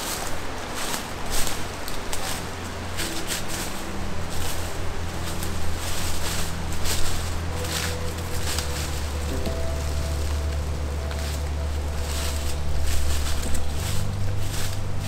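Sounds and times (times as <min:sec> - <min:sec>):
footsteps crunching dry leaves: 0:00.0 - 0:15.0
steady low hum: 0:00.0 - 0:15.0.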